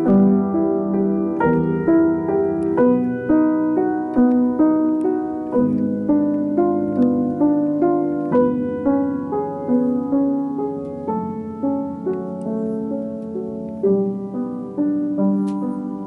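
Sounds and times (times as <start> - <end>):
piano broken chords: 0.0 - 16.0.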